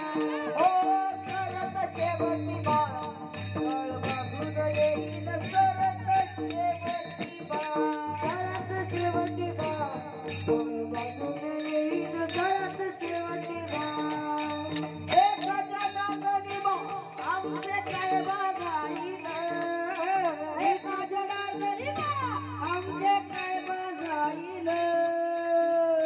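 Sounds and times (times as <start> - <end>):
hand cymbals clashing: 0.0 - 26.0.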